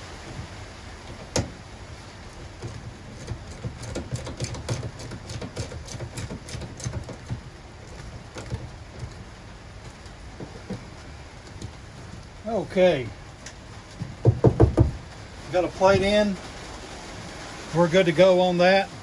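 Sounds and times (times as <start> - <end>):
rain on a metal roof: 0.0 - 19.0.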